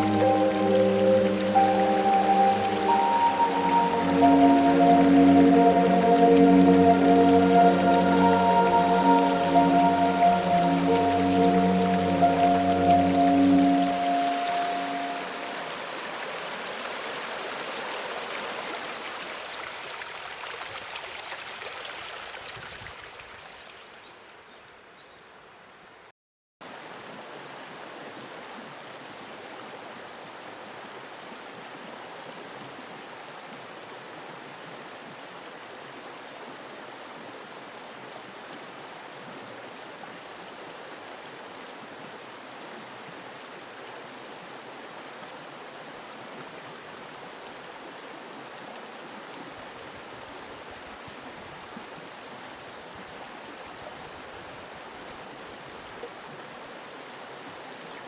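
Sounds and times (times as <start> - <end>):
stream water rushing: 0.0 - 24.4, 25.2 - 58.0.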